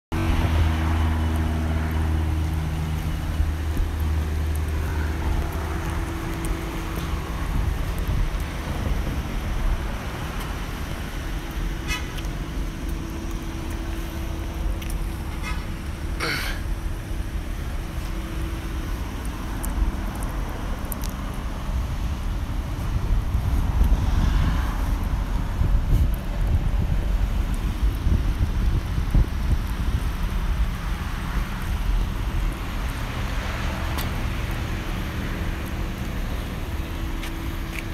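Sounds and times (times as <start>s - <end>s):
vehicle engine idling: 0.1s - 37.9s
wind rumble on microphone: 0.1s - 37.9s.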